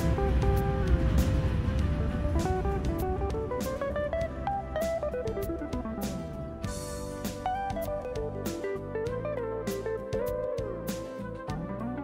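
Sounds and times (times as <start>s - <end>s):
guitar melody: 0.0s - 12.0s.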